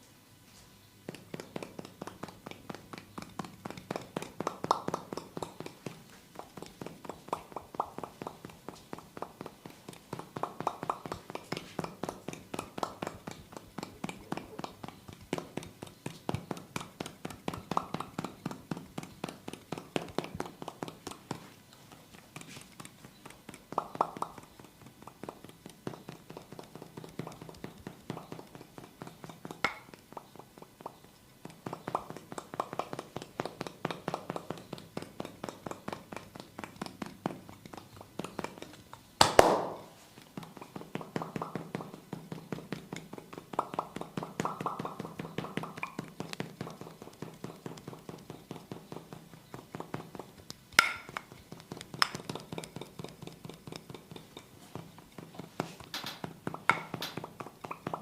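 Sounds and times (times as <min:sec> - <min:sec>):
hands slapping on skin: 0:01.1 - 0:54.2.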